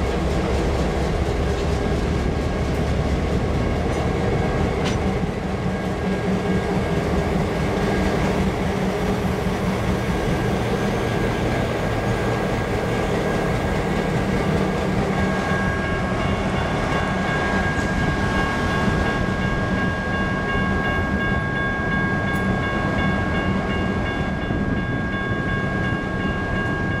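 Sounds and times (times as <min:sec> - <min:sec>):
diesel locomotive engine drone: 0:00.0 - 0:27.0
train wheel noise: 0:00.0 - 0:27.0.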